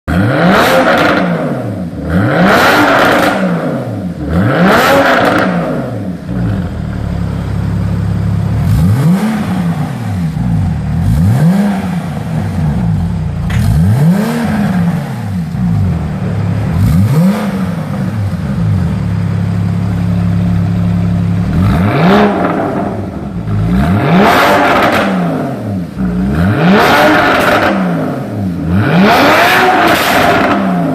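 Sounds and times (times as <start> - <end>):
sports car engine revving: 0.1 - 30.9.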